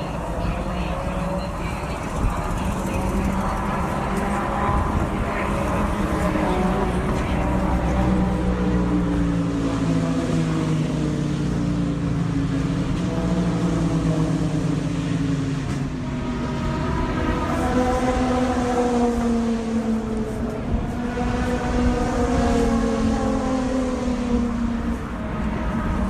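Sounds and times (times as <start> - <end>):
higher engine note: 0.0 - 26.0
race car engines: 0.0 - 26.0.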